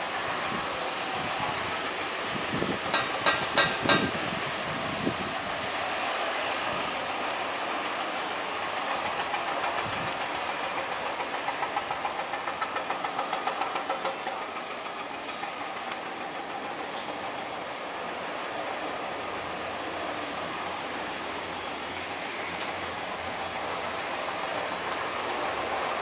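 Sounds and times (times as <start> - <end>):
high turbine whine: 0.0 - 26.0
propeller drone: 0.0 - 26.0.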